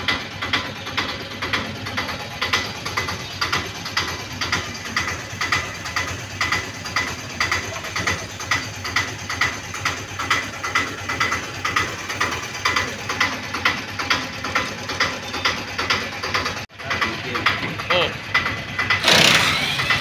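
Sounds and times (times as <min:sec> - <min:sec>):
rhythmic mechanical clicking: 0:00.0 - 0:20.0.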